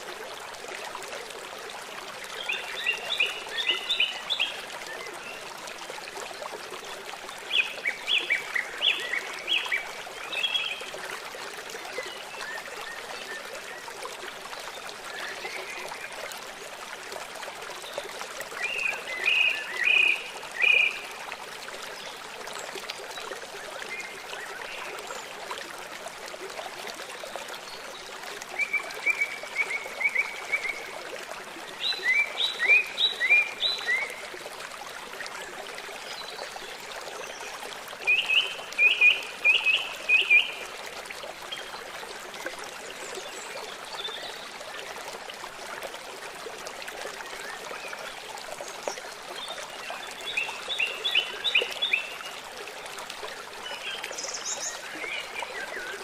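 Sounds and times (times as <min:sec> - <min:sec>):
forest stream rushing: 0:00.0 - 0:56.0.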